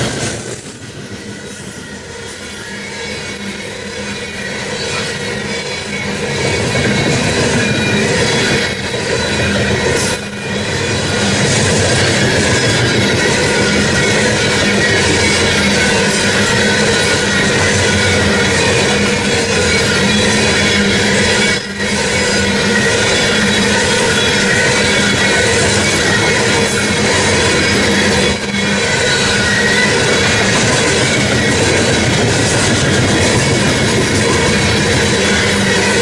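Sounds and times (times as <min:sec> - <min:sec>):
freight train rolling past: 0:00.0 - 0:36.0
steel wheels squealing on rails: 0:00.0 - 0:36.0.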